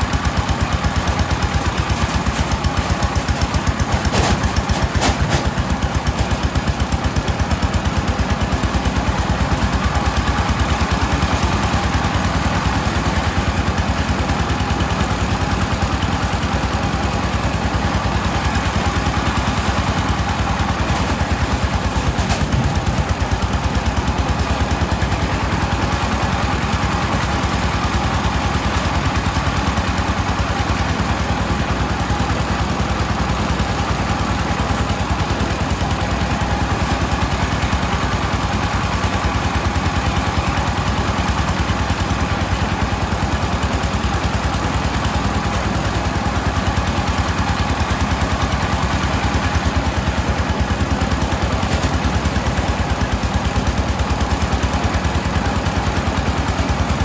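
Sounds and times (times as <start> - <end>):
threshing machine engine running: 0.0 - 57.0.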